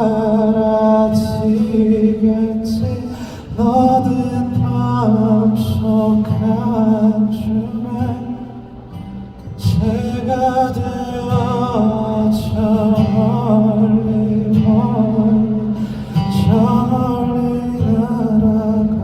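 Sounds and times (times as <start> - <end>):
male voice singing: 0.0 - 8.6, 9.6 - 19.0
guitar: 0.0 - 19.0.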